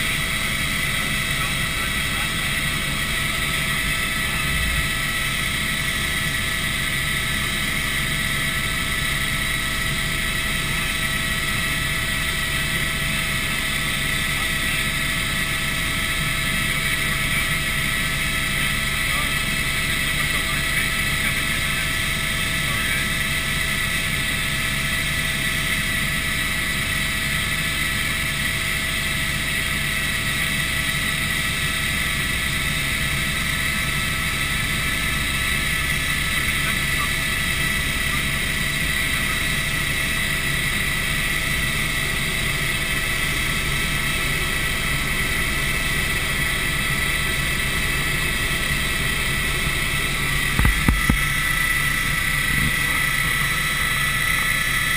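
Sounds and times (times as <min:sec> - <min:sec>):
helicopter rotor and engine drone: 0:00.0 - 0:54.9
high whine: 0:00.0 - 0:54.9.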